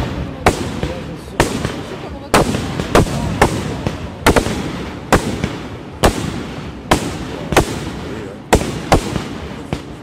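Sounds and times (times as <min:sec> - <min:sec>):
fireworks bursting with echo: 0:00.0 - 0:10.0.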